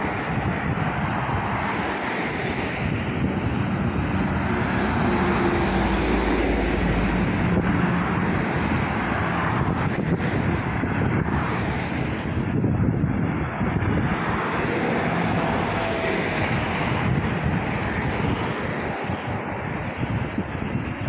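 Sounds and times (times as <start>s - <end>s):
heavy vehicle engine hum: 0.0s - 21.0s
road traffic passing: 0.0s - 21.0s.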